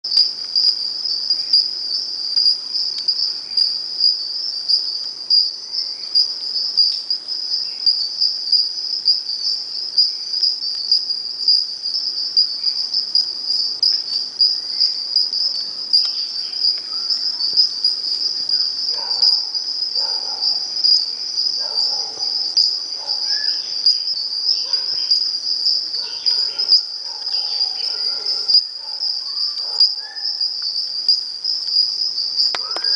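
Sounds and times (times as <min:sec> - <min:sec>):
high-pitched insect trill: 0:00.1 - 0:32.9
low short insect calls: 0:00.1 - 0:32.9.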